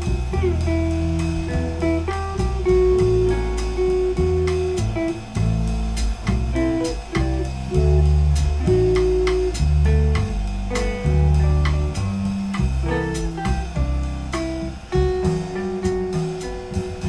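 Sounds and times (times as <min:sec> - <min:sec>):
jazz guitar melody: 0:00.0 - 0:17.0
low bass line: 0:00.0 - 0:17.0.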